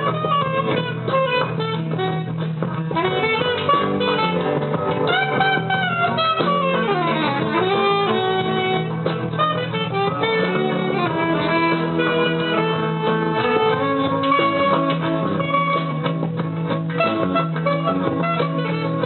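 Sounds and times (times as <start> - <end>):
electric guitar: 0.0 - 19.0
held bass: 0.0 - 19.0
sliding melodic lead line: 0.0 - 19.0.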